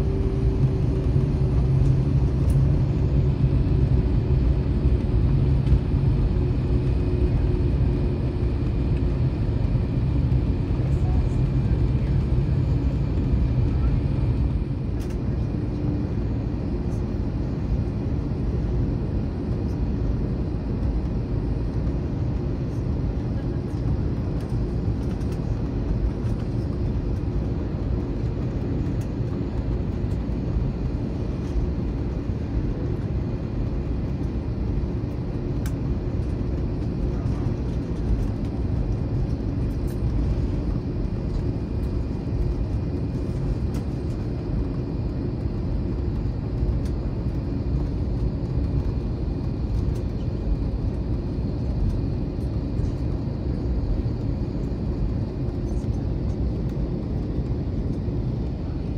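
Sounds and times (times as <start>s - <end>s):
airliner cabin rumble taxiing: 0.0s - 58.9s.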